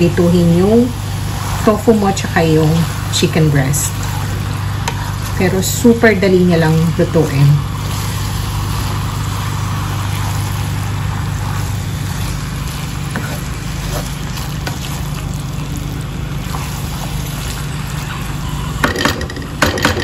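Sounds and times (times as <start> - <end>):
food sizzling in a wok: 0.0 - 19.8
steady low hum: 0.0 - 20.0.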